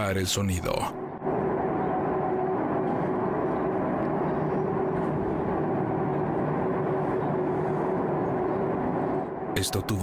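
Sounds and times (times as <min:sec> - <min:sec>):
droning rumble with held tone: 0:00.0 - 0:10.0.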